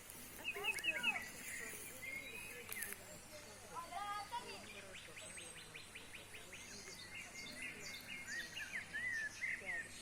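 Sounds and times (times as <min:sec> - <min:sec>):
songbirds singing: 0:00.0 - 0:10.0.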